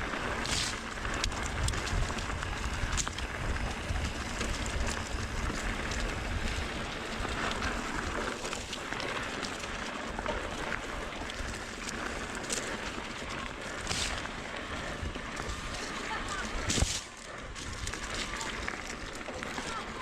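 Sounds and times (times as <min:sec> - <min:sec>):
bike rattles and clicks: 0:00.0 - 0:20.0
tyres rolling over gravel: 0:00.0 - 0:20.0.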